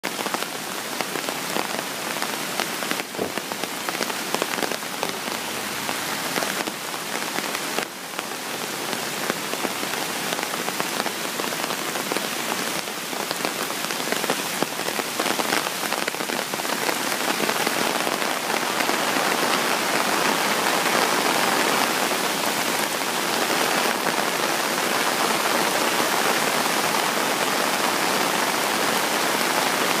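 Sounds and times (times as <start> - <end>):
heavy rain falling: 0.0 - 30.0
stream pouring over rocks: 0.0 - 30.0.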